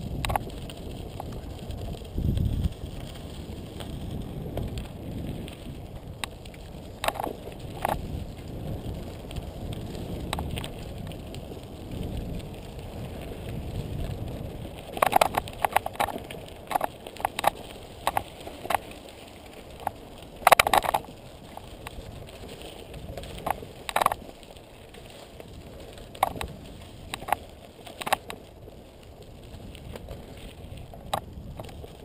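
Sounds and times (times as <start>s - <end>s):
bike rattling over rocks: 0.0s - 32.0s
tires rumbling on gravel: 0.0s - 32.0s.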